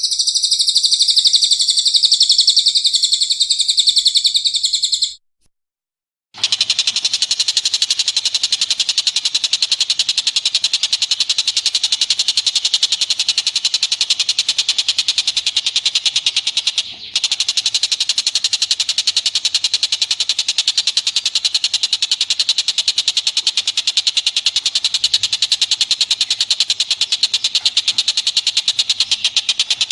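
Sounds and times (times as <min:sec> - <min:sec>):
high chattering animal calls: 0:00.0 - 0:05.2, 0:06.4 - 0:29.9.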